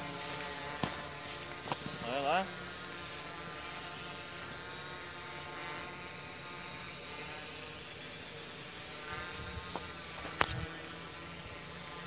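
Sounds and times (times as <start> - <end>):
drone buzzing whine: 0.0 - 12.0.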